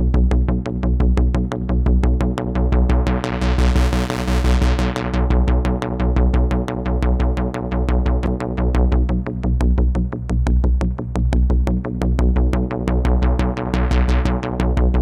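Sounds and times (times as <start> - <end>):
deep synth bass pulse: 0.0 - 15.0.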